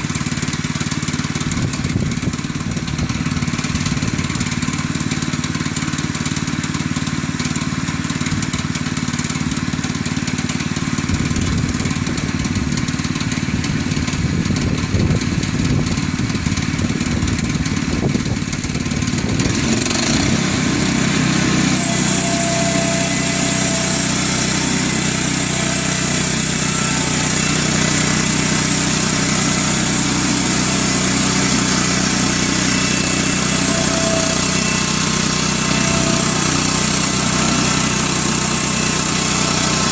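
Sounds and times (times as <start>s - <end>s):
band blade whining through log: 0.0s - 39.9s
gasoline engine idling and revving: 0.0s - 39.9s.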